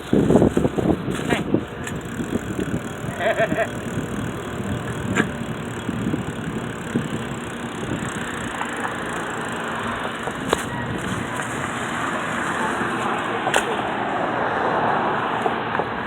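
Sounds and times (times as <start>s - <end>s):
bicycle rolling with rattles: 0.0s - 16.0s.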